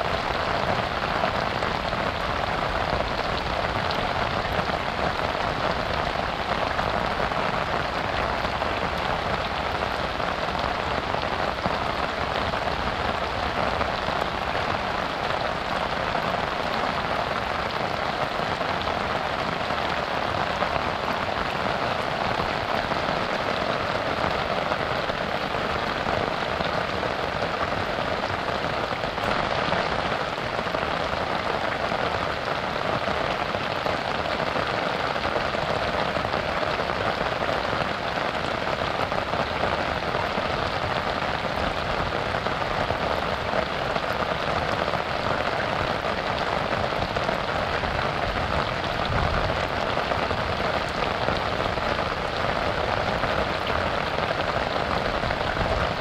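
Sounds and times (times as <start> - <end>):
heavy rain on a river: 0.0 - 56.0.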